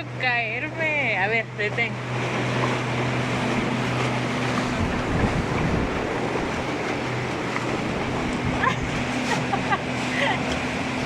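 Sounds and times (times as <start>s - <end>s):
motorboat engine running: 0.0s - 11.0s
wind and water rushing: 0.0s - 11.0s.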